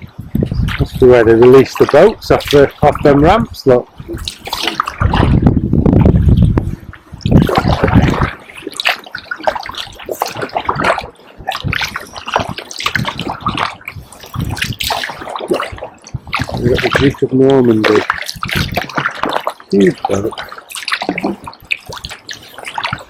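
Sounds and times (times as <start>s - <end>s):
paddle splashing water: 0.0s - 23.0s.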